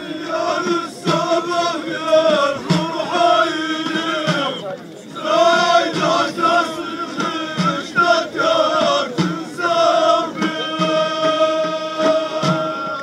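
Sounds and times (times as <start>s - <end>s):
drum beats: 0.0s - 13.0s
men's chorus singing held notes: 0.0s - 13.0s.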